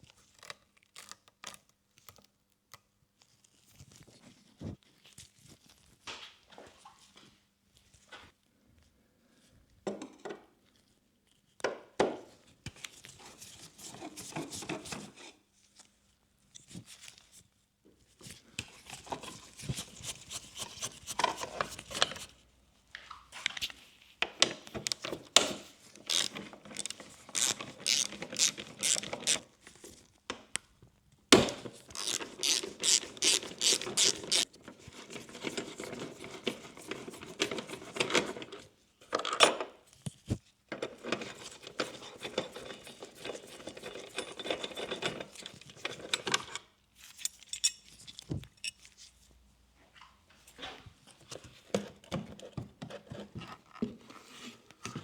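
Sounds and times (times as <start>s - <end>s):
crinkling and scraping: 0.0s - 8.5s, 9.3s - 55.0s.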